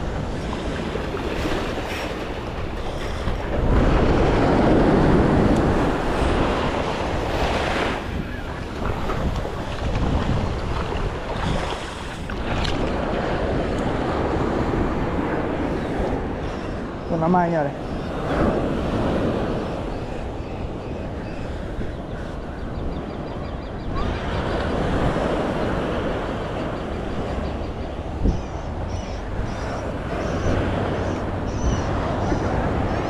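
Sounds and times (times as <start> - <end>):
ocean surf washing up beach: 0.0 - 23.3, 23.9 - 33.0
wind on microphone: 0.0 - 33.0.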